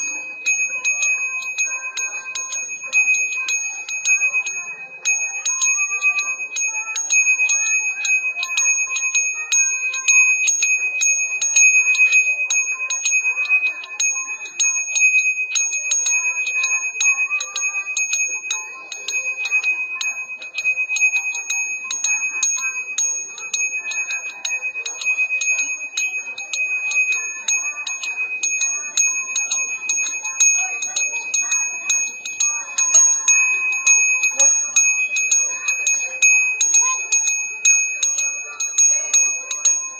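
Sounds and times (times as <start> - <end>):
hand bell ringing: 0.0 - 39.9.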